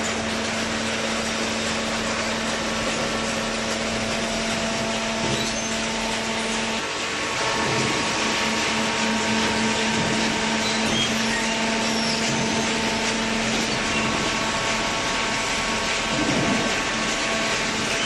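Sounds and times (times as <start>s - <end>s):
baler machine hum: 0.0s - 18.0s.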